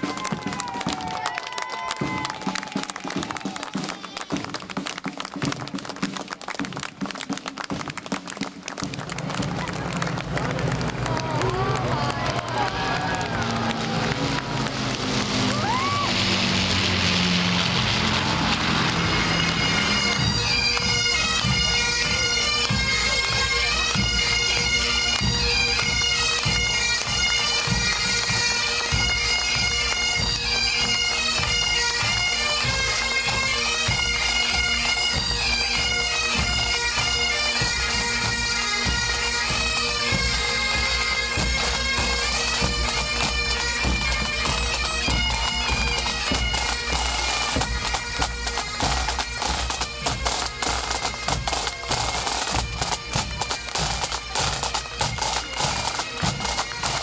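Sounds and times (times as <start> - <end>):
bagpipes with drone: 0.0 - 57.0
marching drums: 0.0 - 57.0.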